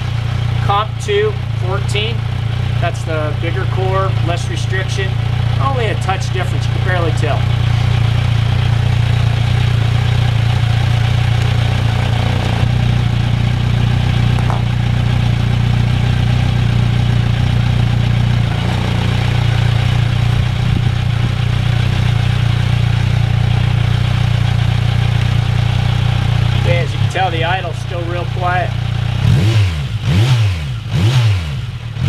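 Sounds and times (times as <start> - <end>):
motorcycle engine idling: 0.0 - 30.1.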